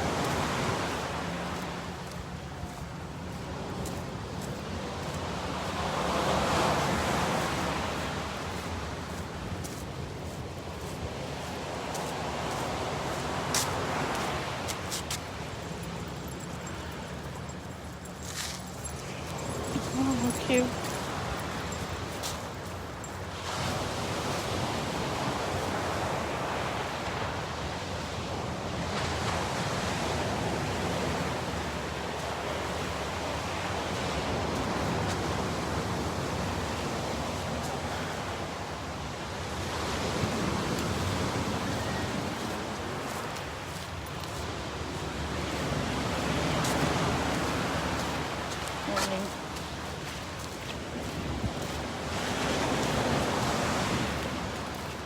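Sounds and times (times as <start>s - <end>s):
ocean surf washing ashore: 0.0s - 55.0s
steady rush of the sea: 0.0s - 55.0s.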